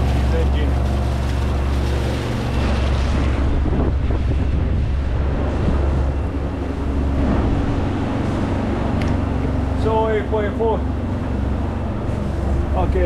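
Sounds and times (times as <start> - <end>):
marine diesel engine drone: 0.0 - 13.0
rushing water: 0.0 - 13.0
wind buffeting microphone: 0.0 - 13.0.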